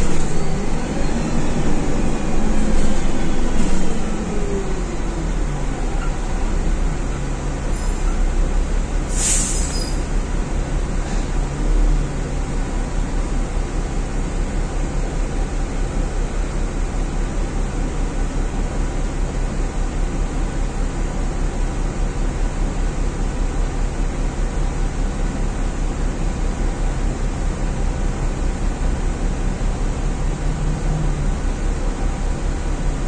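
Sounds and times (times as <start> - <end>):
bus diesel engine idling: 0.0 - 33.0.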